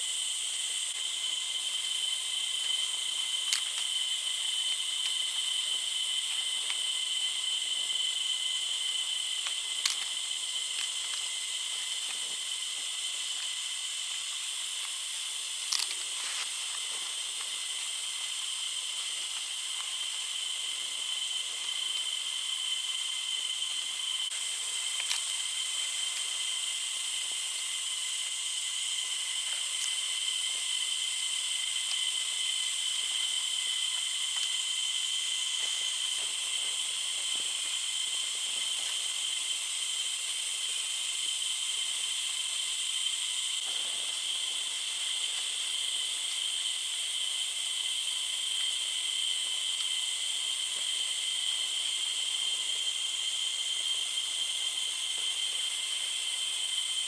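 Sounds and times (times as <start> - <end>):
insects shrill drone: 0.0 - 57.0.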